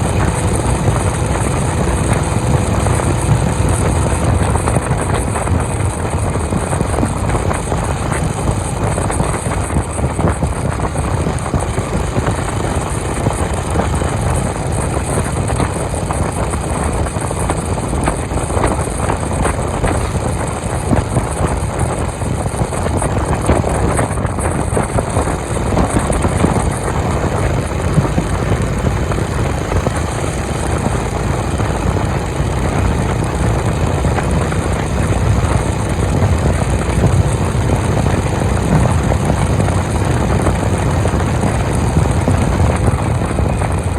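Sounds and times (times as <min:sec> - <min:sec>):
motorcycle engine cruising: 0:00.0 - 0:43.9
wind noise: 0:00.0 - 0:43.9.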